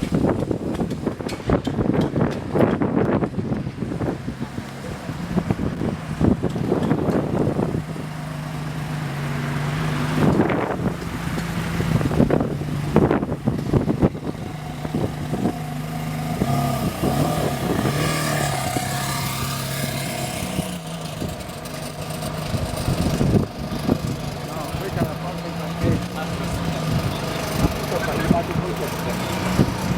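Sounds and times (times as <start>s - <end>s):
car engine idling: 3.8s - 29.9s.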